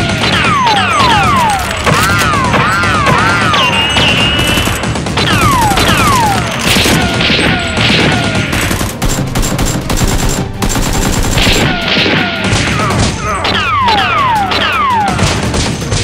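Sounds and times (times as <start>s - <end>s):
rapid gunshots: 0.0s - 16.0s.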